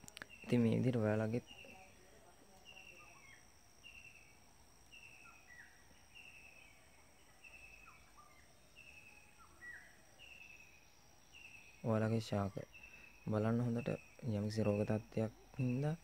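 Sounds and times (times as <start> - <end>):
faint high-pitched hum: 0.0 - 16.0.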